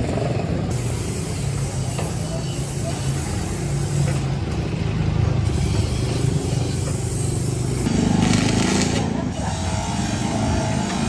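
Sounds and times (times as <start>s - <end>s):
engine humming: 0.0s - 9.5s.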